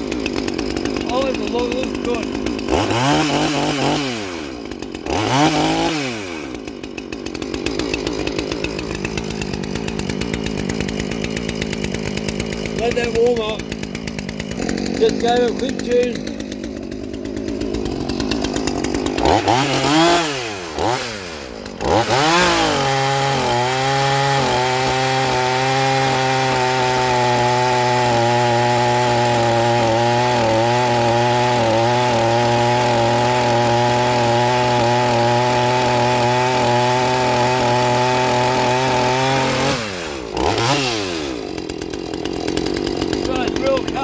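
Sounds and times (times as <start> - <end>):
chainsaw engine revving: 0.0 - 44.0.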